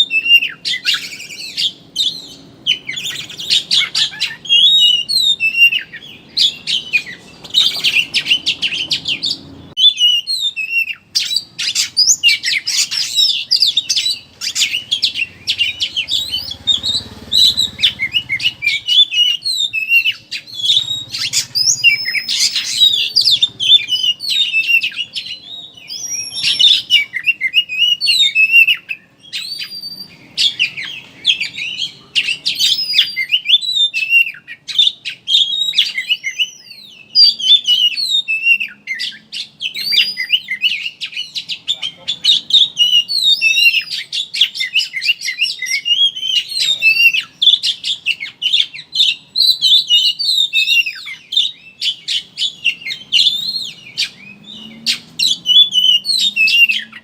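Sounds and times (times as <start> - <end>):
bird chattering song: 0.0 - 57.0.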